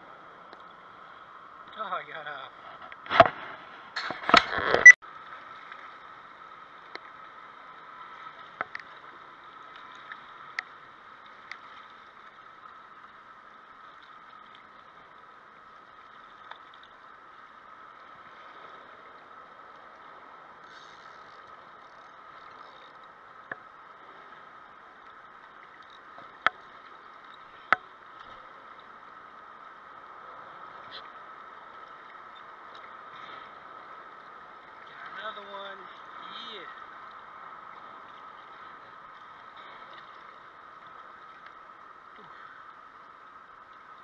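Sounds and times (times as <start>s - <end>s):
river lapping at bank: 0.0s - 44.0s.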